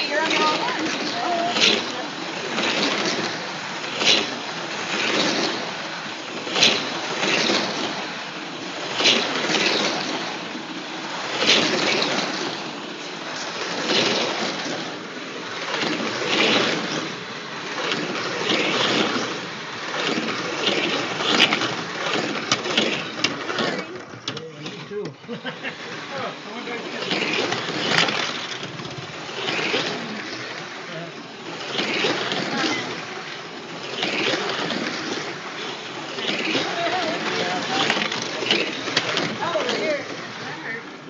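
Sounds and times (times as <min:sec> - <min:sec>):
hum of slot car motors: 0:00.0 - 0:41.0
slot cars whizzing past: 0:00.0 - 0:41.0.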